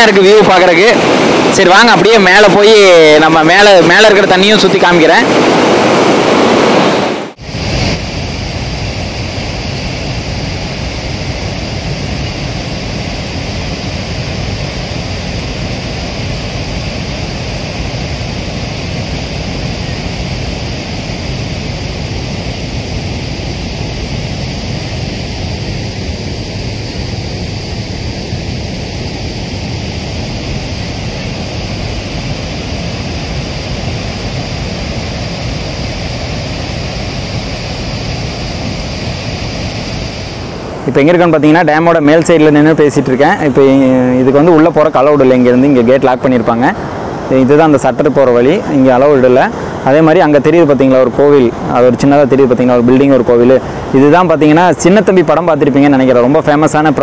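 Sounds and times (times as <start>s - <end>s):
floodwater rushing through spillway: 0.0s - 57.0s.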